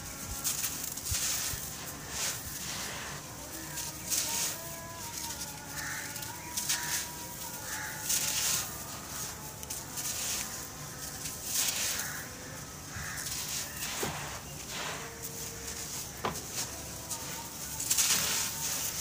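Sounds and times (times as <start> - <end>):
sand crunching by hand: 0.0 - 19.0
sand grains trickling: 0.0 - 19.0.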